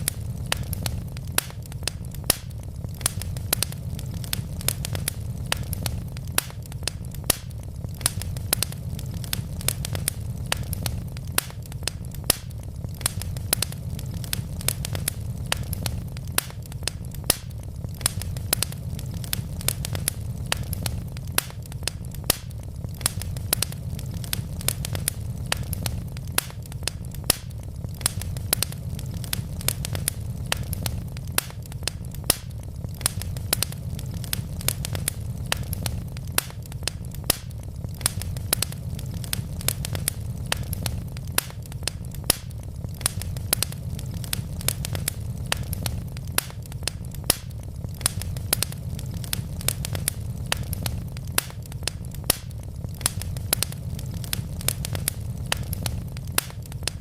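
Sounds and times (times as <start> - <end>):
logs crackling in fireplace: 0.0 - 57.0.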